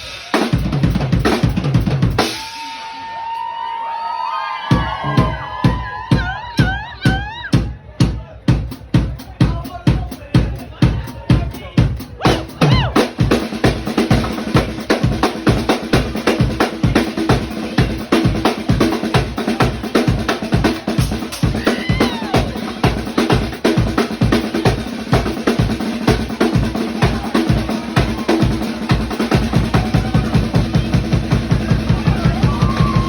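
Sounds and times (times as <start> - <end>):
drum solo: 0.0 - 3.4, 4.7 - 33.0.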